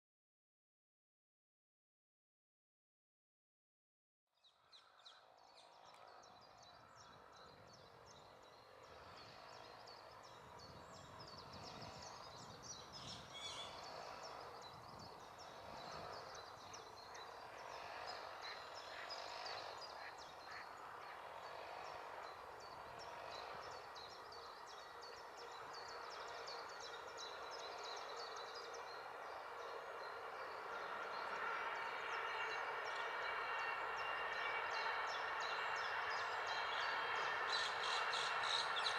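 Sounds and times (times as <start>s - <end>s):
traffic noise: 5.0s - 38.9s.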